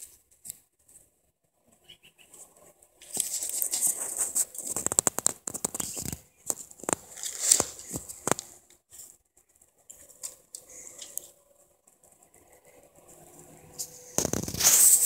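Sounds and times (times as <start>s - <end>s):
paws scratching on concrete: 2.2s - 15.0s.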